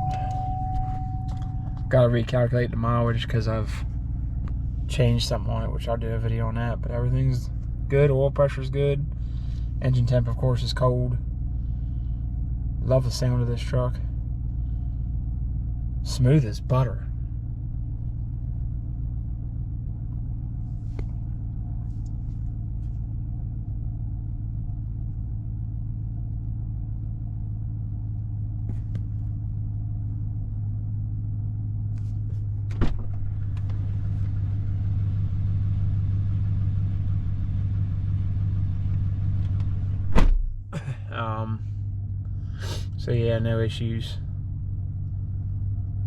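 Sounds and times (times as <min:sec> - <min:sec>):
engine idling rumble: 0:00.0 - 0:46.0.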